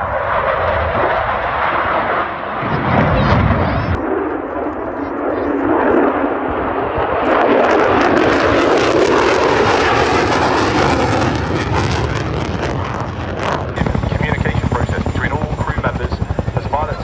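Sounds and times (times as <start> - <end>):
aircraft engine roar: 0.0 - 17.0.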